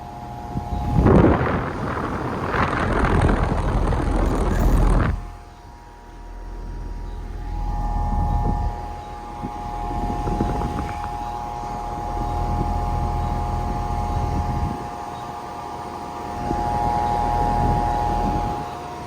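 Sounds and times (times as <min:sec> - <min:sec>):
compressor humming: 0:00.0 - 0:19.0
fan air rushing: 0:00.0 - 0:19.0.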